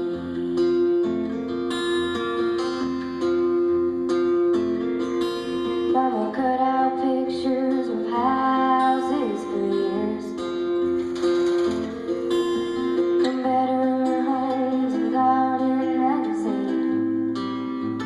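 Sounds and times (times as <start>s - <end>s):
strummed acoustic guitar chords: 0.0s - 18.0s.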